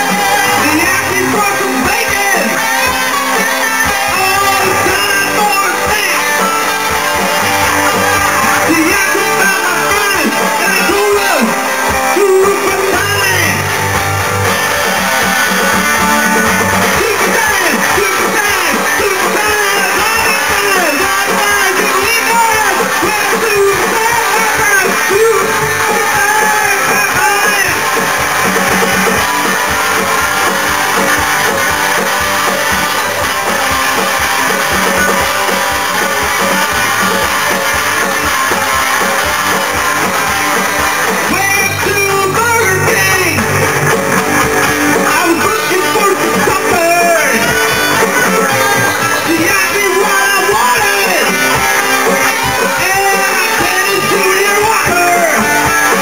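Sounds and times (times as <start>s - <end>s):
electric guitars playing rock: 0.0s - 56.0s.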